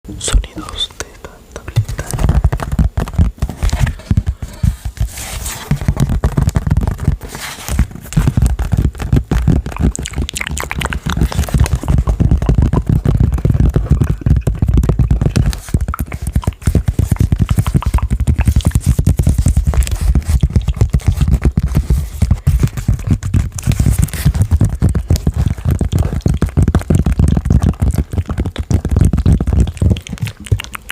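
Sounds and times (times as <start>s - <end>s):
rapid taps and scrapes on board: 1.6s - 30.9s.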